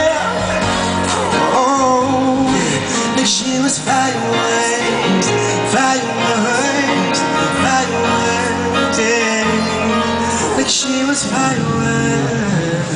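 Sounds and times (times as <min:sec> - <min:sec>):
pop song with singing: 0:00.0 - 0:12.9.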